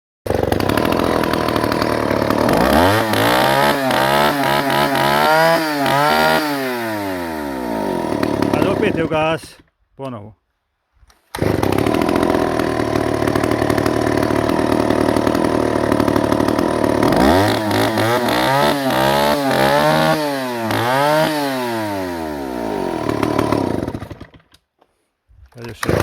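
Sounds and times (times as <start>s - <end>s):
chainsaw engine revving: 0.3s - 9.6s, 11.3s - 24.5s, 25.7s - 26.0s.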